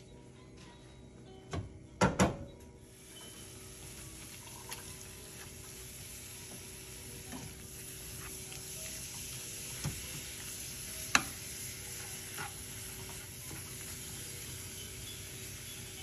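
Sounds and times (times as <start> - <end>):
meat sizzling in a skillet: 2.9 - 16.0.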